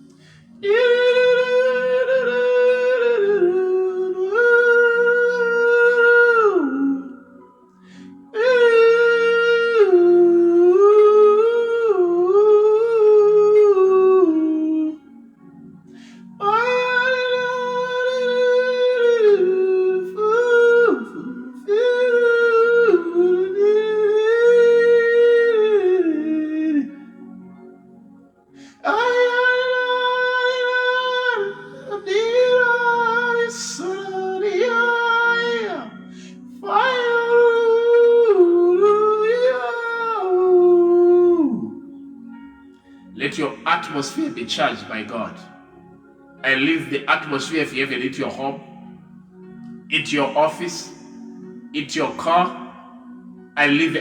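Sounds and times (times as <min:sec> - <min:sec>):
soft sustained background chord: 0:00.0 - 0:54.0.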